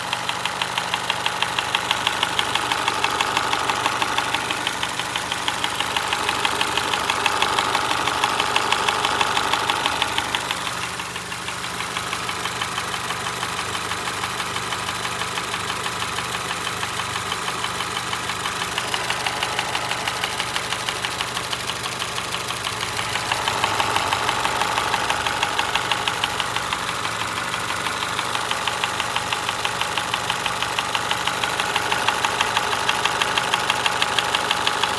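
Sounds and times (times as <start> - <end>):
car engine idling: 0.0 - 34.9
rapid engine ticking: 0.0 - 34.9.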